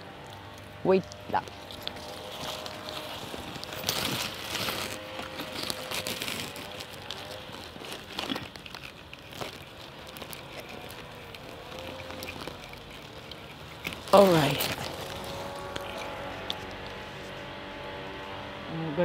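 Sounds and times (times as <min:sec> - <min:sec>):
leaves rustling and crackling: 0:00.0 - 0:18.8.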